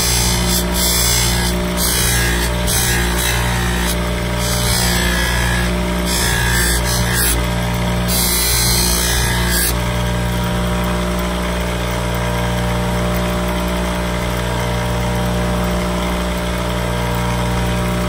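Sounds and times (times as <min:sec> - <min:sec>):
bench buffer humming: 0:00.0 - 0:18.0.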